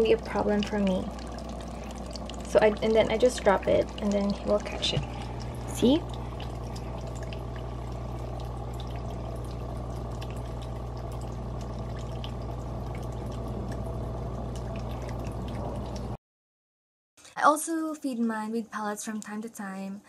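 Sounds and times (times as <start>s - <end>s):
faint small splashes: 0.0s - 16.2s
low pump hum: 0.0s - 16.2s
water flowing: 0.0s - 16.2s.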